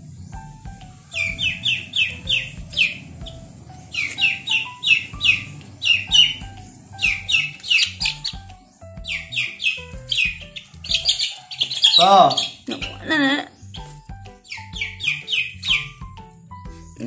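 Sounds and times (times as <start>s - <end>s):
chick peeping loudly: 0.7s - 16.2s.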